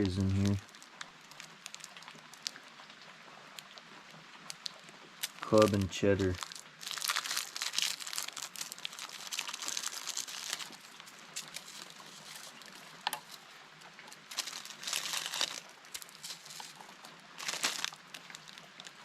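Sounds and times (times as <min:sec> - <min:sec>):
plastic packaging crinkling: 0:00.0 - 0:02.6, 0:04.6 - 0:19.0.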